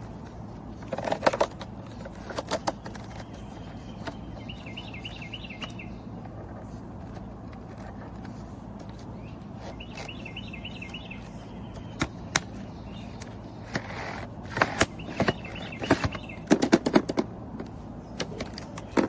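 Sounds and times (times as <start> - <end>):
sharp clicks and knocks: 0.0 - 9.1, 11.7 - 19.0
low steady hum: 0.0 - 19.0.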